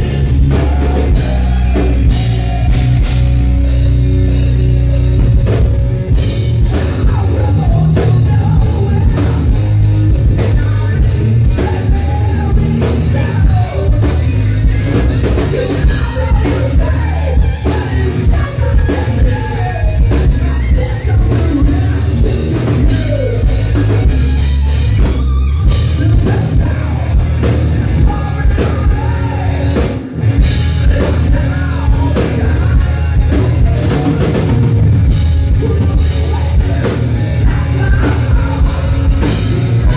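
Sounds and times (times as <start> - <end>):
bending lead guitar line: 0.0 - 39.9
distorted electric guitar: 0.0 - 39.9
pounding drum kit: 0.0 - 39.9.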